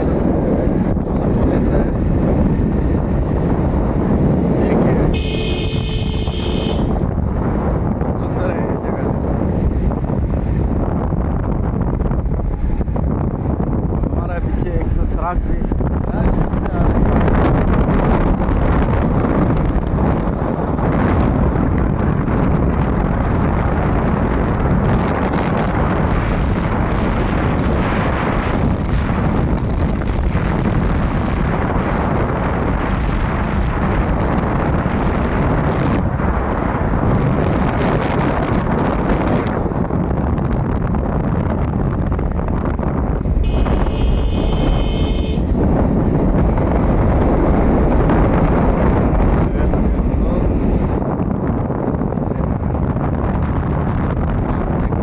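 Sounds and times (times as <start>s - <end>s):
motorbike noise: 0.0s - 55.0s
vehicle road noise: 0.0s - 55.0s
wind buffeting microphone: 0.0s - 55.0s.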